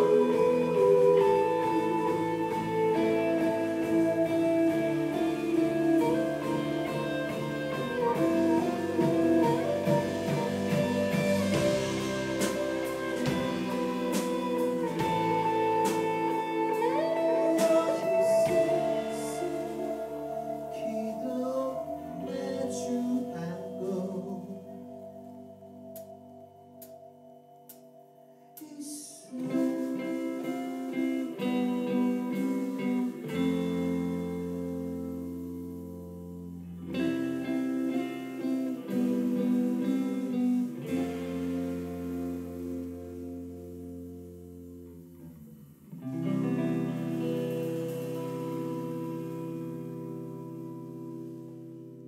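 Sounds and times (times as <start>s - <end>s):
drums: 0.0s - 27.0s, 28.5s - 52.0s
electric guitar sustained notes: 0.0s - 52.0s.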